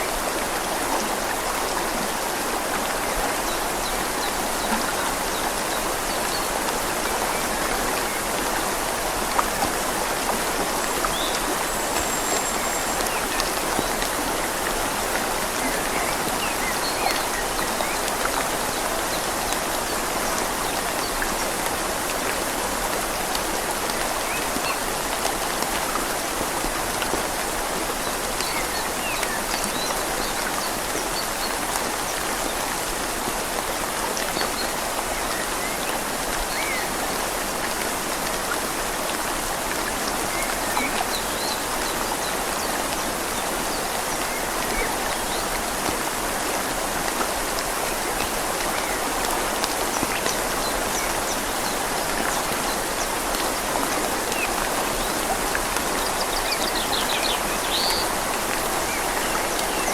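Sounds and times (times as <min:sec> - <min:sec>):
rain falling on leaves: 0:00.0 - 0:59.9
river flowing: 0:00.0 - 0:59.9.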